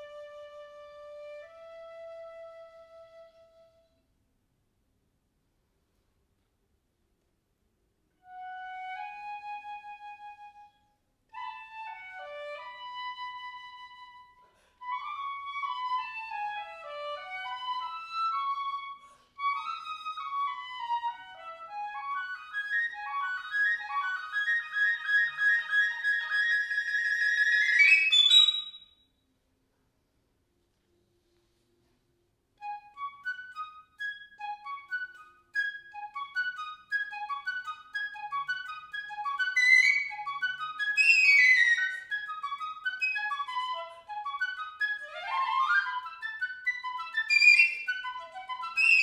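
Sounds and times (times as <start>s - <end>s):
solo piccolo melody: 0.0s - 4.1s, 8.2s - 28.9s, 32.6s - 49.0s.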